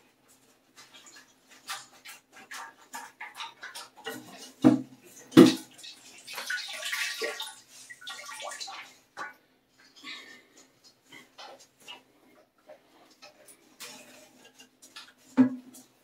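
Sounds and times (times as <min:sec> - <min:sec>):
water sloshing and dripping: 0:00.0 - 0:16.0
small splashes and clicks: 0:00.3 - 0:16.0.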